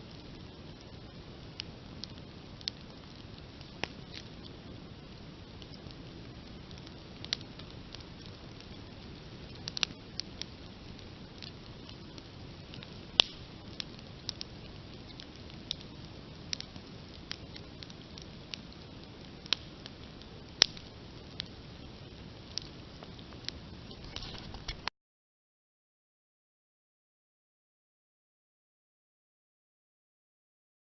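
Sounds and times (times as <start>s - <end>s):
campfire crackling and popping: 0.0s - 24.9s
fire hissing: 0.0s - 24.9s.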